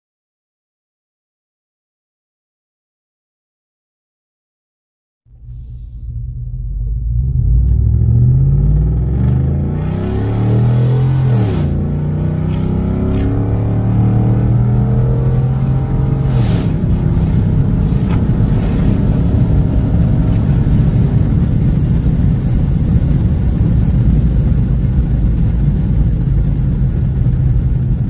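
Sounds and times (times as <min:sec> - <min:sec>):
road noise: 0:05.3 - 0:28.0
truck engine accelerating hard: 0:05.3 - 0:28.0.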